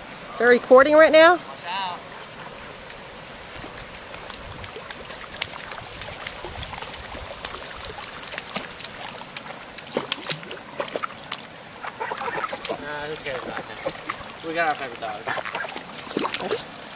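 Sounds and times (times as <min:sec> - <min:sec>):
stream trickling: 0:00.0 - 0:16.9
feet splashing through shallow water: 0:02.0 - 0:16.9.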